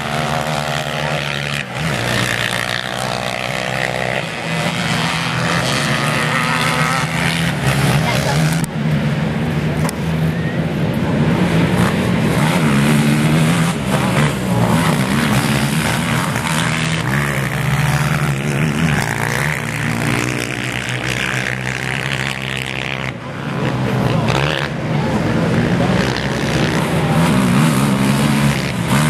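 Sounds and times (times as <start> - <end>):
racing atv engines revving: 0.0 - 29.0.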